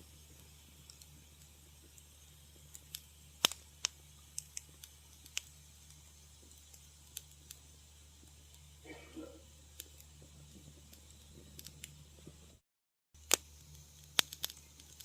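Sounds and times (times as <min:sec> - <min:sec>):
faint low hum: 0:00.0 - 0:12.6
wood fire crackling: 0:00.0 - 0:12.6, 0:13.2 - 0:15.0.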